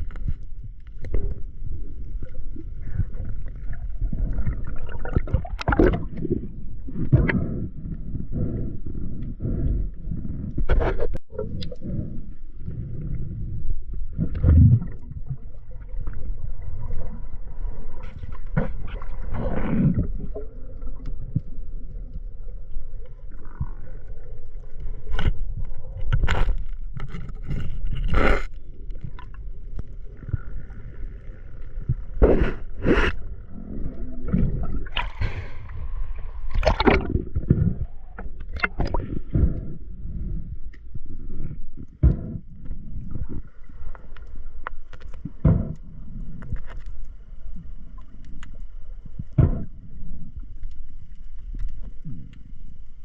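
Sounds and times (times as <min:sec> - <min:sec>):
underwater rumble of water: 0:00.0 - 0:53.0.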